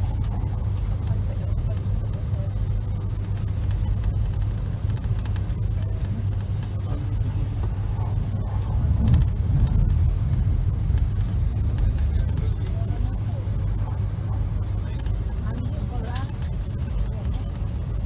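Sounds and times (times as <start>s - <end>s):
train interior rumble: 0.0s - 18.0s.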